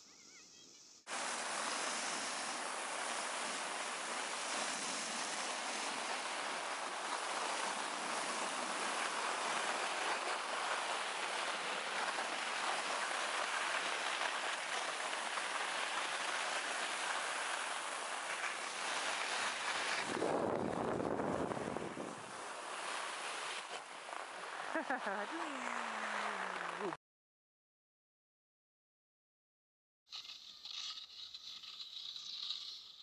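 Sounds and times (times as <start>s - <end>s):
snowboard edges scraping snow: 1.1s - 27.0s, 30.2s - 32.9s.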